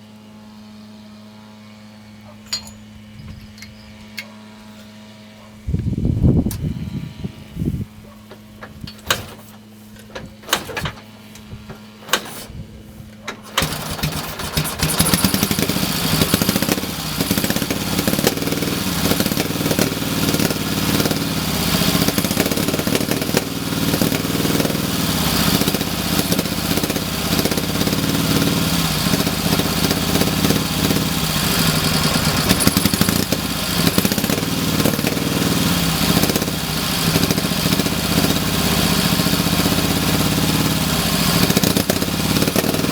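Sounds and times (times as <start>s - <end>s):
motorcycle engine running roughly: 8.0s - 42.9s.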